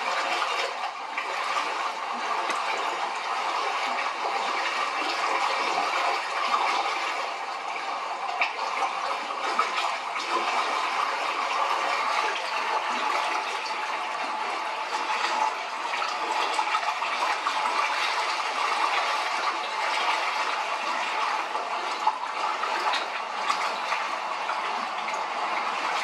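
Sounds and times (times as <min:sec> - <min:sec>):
rushing water-like noise: 0:00.0 - 0:26.0.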